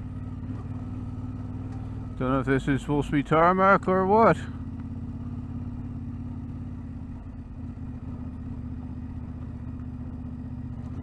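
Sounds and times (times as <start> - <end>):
car engine on rough road: 0.0 - 11.0.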